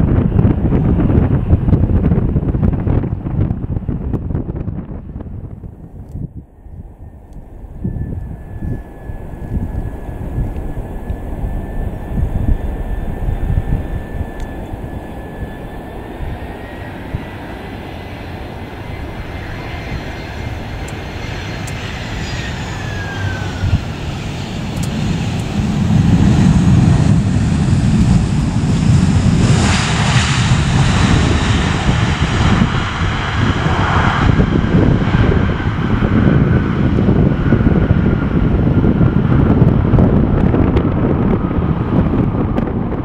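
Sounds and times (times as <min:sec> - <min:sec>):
jet engine whine: 0:00.0 - 0:43.0
low rumble of jet engines: 0:00.0 - 0:43.0.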